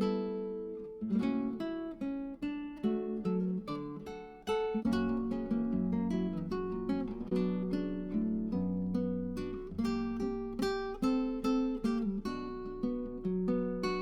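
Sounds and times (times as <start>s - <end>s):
acoustic guitar plucked and strummed: 0.0s - 14.0s.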